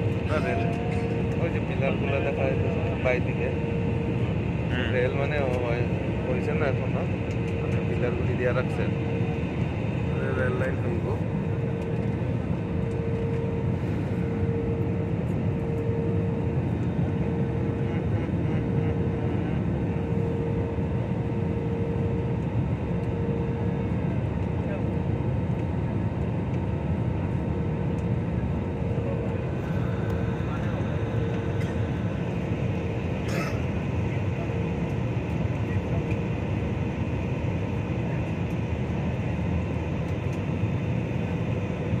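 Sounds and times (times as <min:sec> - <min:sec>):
steady hum: 0:00.0 - 0:23.9, 0:26.9 - 0:42.0
jet cabin engine rumble: 0:00.0 - 0:42.0.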